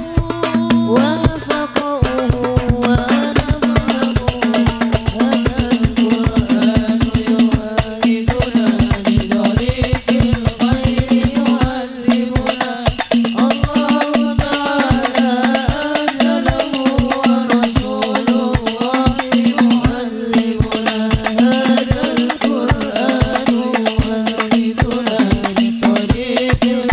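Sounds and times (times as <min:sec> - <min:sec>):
frame drums beating fast rhythm: 0:00.0 - 0:26.9.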